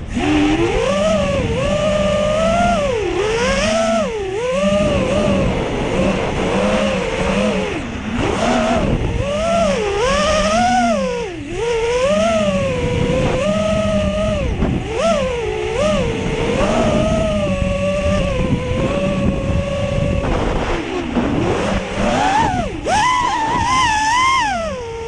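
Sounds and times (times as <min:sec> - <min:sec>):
quadcopter motors whining: 0:00.0 - 0:25.0
rough wind noise: 0:00.0 - 0:25.0.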